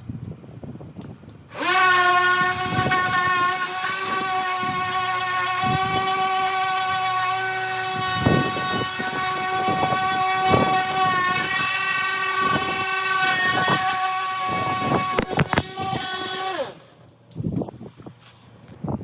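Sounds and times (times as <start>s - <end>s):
power sander motor whine: 1.5s - 17.1s.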